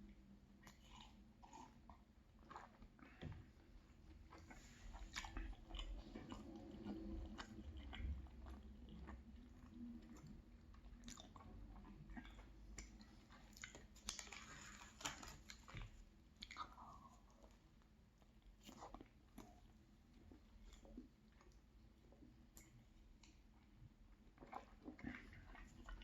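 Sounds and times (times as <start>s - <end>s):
person chewing soft food: 0.0s - 26.0s.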